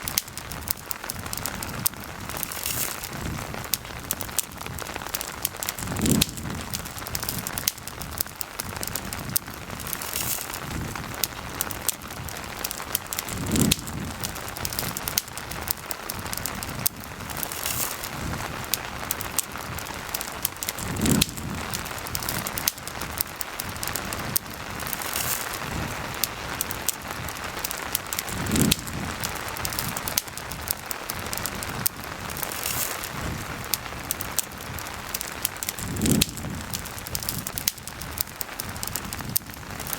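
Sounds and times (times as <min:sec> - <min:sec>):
campfire crackling and popping: 0:00.0 - 0:39.9
steady rain: 0:00.0 - 0:39.9.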